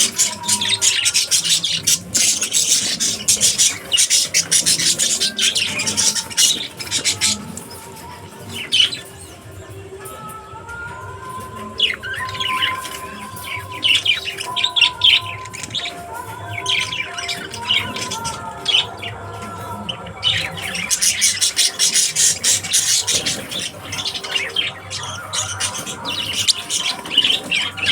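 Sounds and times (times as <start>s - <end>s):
lovebirds squawking and chirping: 0.0s - 27.9s.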